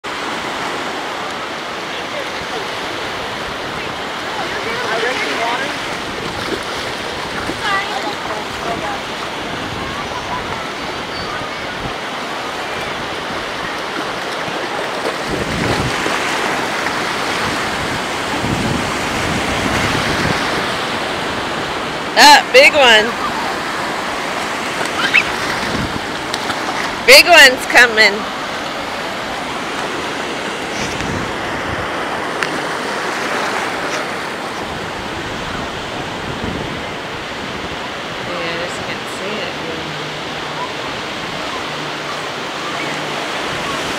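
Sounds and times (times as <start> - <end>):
ocean surf washing in: 0.0 - 43.9.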